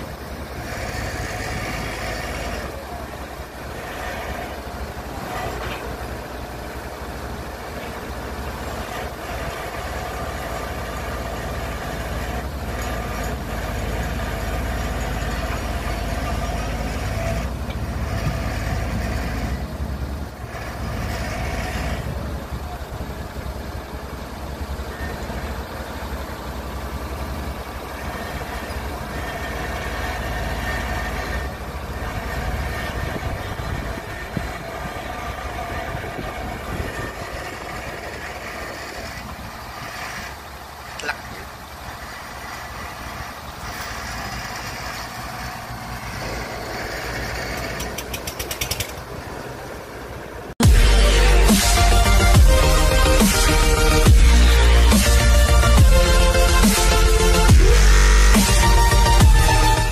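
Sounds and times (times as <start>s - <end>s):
excavator diesel engine rumble: 0.0s - 59.9s
tractor engine running: 0.0s - 59.9s.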